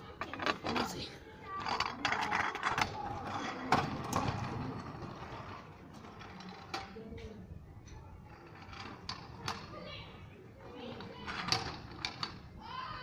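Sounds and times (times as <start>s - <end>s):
scooter wheels rolling over asphalt: 0.0s - 13.0s.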